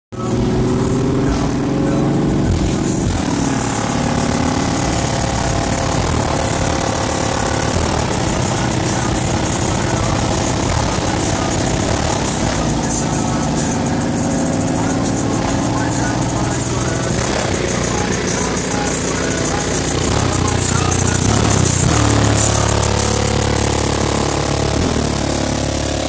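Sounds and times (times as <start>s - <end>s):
pickup truck engine idling: 0.1s - 26.0s.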